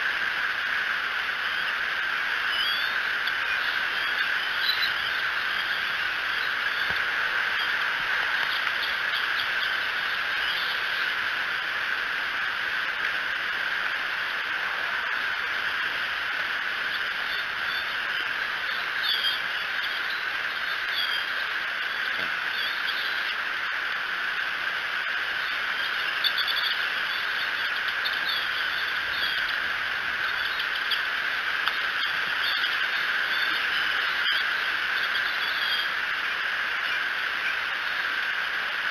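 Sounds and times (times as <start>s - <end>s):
steady outdoor chorus: 0.0s - 38.9s
short high curved calls: 0.6s - 38.4s.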